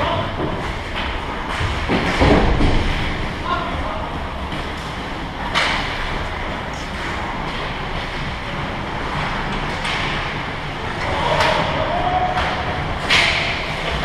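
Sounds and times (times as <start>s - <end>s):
arena rumble: 0.0s - 14.0s
sharp sounds of hockey play: 0.0s - 14.0s.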